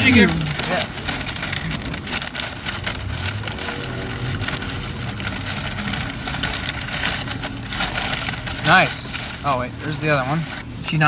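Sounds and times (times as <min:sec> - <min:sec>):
car engine hum: 0:00.0 - 0:11.0
crackling and rustling: 0:00.0 - 0:11.0.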